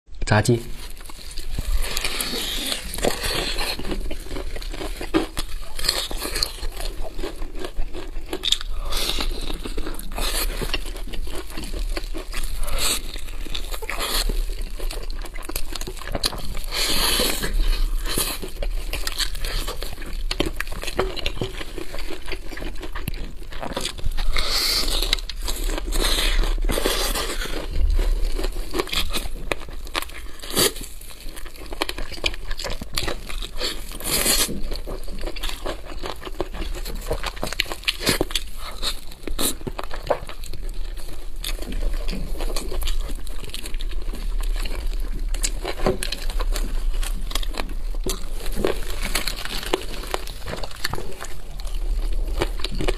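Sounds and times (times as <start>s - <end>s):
crunching and chewing fried chicken: 0.4s - 52.9s.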